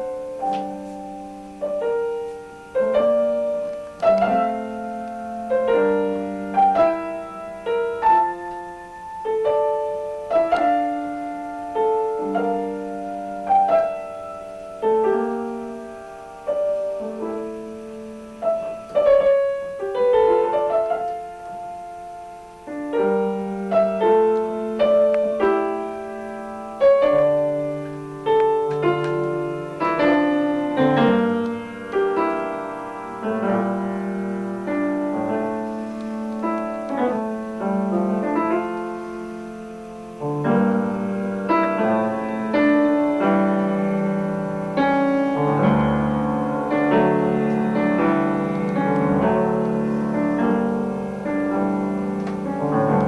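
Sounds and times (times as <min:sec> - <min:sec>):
slow piano piece: 0:00.0 - 0:53.0.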